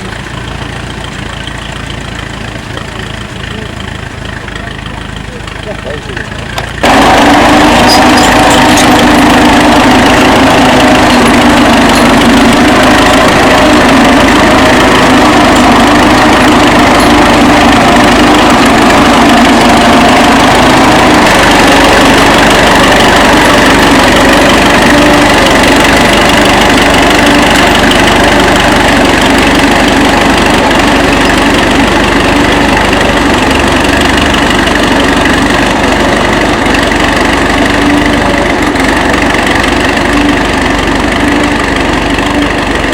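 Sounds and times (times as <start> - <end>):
tractor engine running steadily: 0.0 - 42.9.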